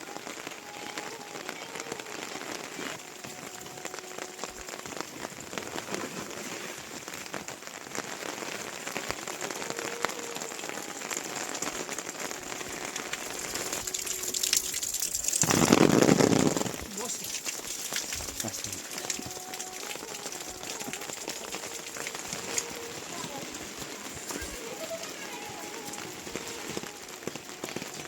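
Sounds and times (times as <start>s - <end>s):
rain pattering: 0.0s - 28.0s.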